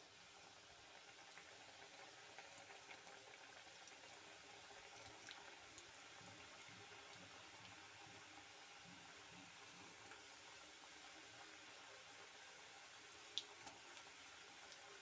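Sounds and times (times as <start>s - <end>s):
dough deep-frying in oil: 0.0s - 15.0s.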